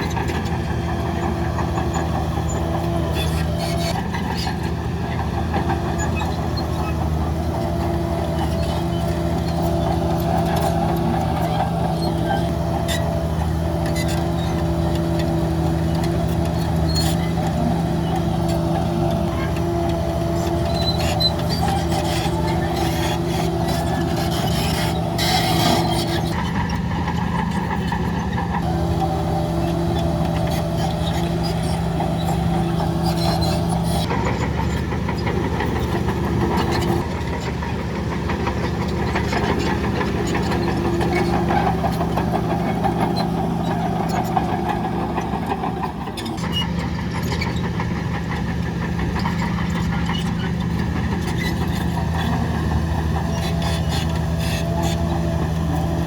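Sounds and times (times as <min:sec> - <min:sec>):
diesel earthmoving machinery running: 0:00.0 - 0:56.0
machinery clicks and clanks: 0:00.0 - 0:56.0.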